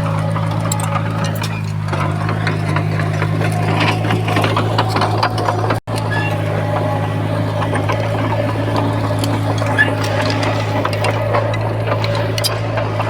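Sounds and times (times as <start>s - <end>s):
bulldozer diesel engine running: 0.0s - 13.0s
rapid rattling and clicking: 0.0s - 13.0s.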